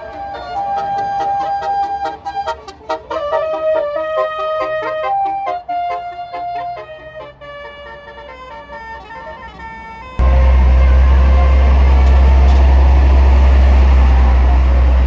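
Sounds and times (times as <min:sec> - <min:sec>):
large vehicle engine rumbling: 0:00.0 - 0:04.1, 0:06.7 - 0:15.0
flute-like melody: 0:00.0 - 0:15.0.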